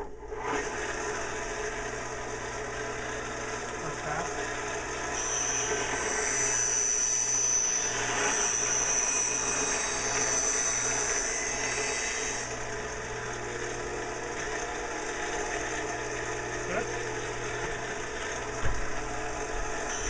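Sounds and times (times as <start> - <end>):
motor humming: 0.3 - 20.0
grinding wheel hissing on steel: 3.1 - 20.0.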